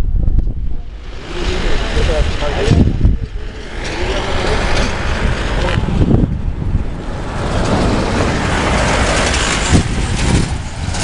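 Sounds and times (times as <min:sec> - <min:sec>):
loud steady low rumble: 0:00.0 - 0:11.0.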